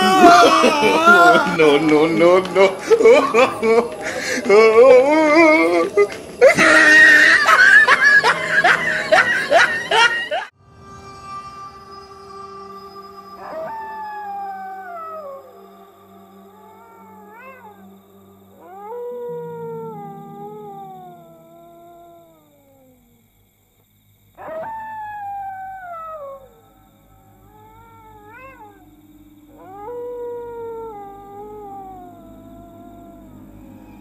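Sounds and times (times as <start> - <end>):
dog howling: 0.0 - 10.5, 13.2 - 23.2, 24.4 - 34.0.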